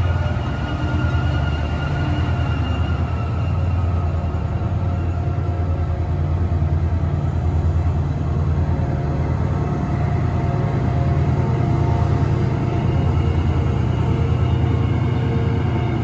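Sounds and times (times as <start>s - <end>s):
diesel locomotive engine rumbling: 0.0s - 16.0s.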